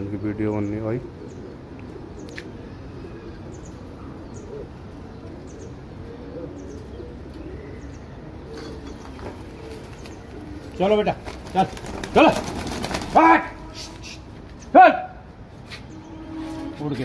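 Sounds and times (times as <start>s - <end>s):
pigeons cooing: 0.0s - 16.7s.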